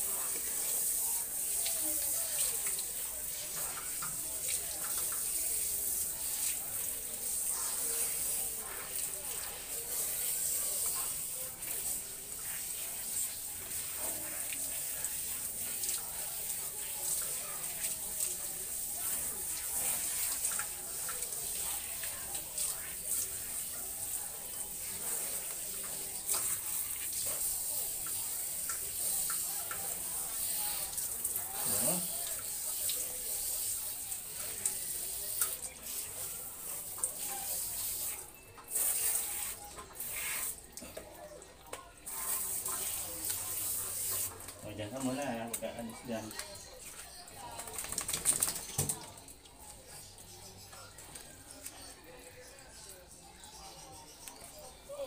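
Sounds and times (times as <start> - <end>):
water spraying from a hose: 0.0 - 40.8, 42.0 - 45.7
water splashing on tiled floor: 0.0 - 52.0.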